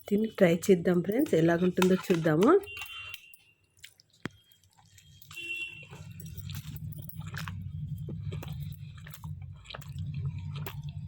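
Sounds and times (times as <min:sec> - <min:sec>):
person chewing with crunches: 0:01.2 - 0:11.0.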